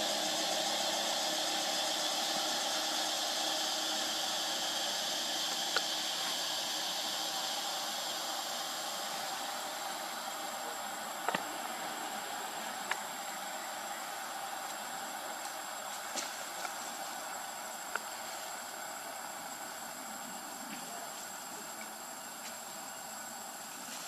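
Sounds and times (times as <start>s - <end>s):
thin high steady tone: 0.0s - 22.4s
background hiss: 0.0s - 24.0s.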